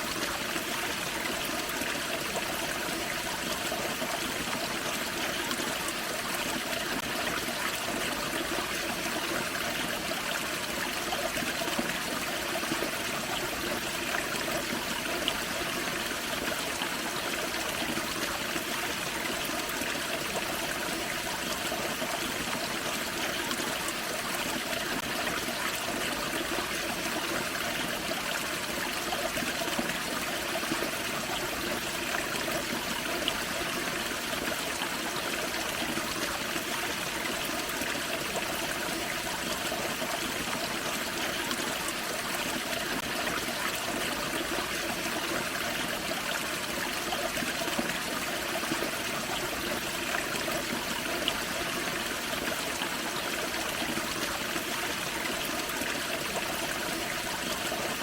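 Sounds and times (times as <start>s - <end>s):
creek water rushing and trickling: 0.0s - 58.0s.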